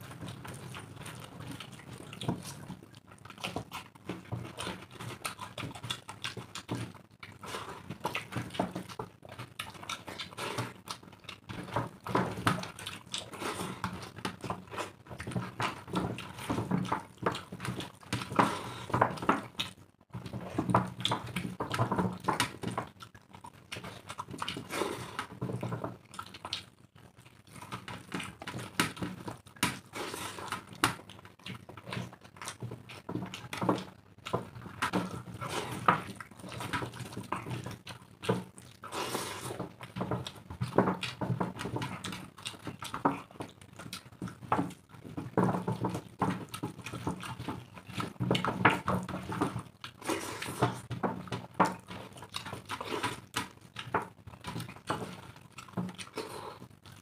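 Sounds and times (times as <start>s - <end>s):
chewing and lip-smacking: 0.0s - 57.0s
rice squished on steel plates: 0.0s - 57.0s.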